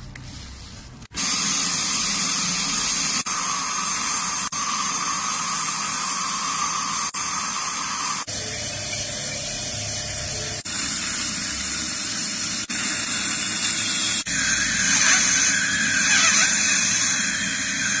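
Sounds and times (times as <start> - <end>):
dental equipment hissing: 1.2 - 18.0.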